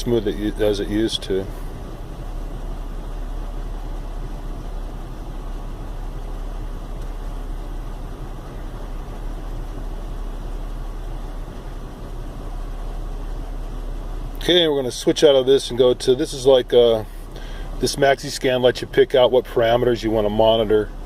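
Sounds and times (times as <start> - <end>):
car engine rough idle: 0.0 - 21.0.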